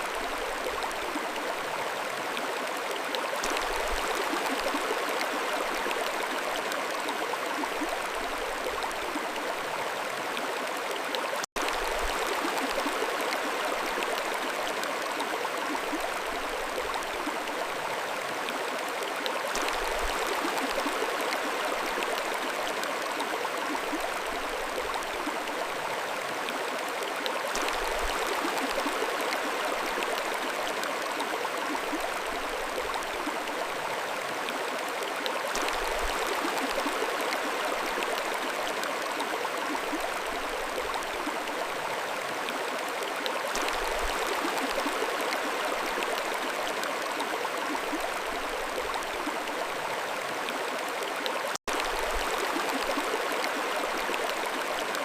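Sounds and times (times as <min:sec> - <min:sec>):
mountain stream flowing: 0:00.0 - 0:55.0.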